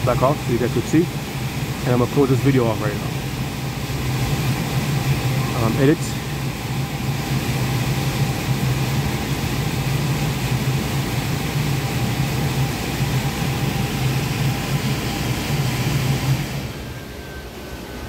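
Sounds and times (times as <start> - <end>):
air conditioning unit humming: 0.0 - 18.0.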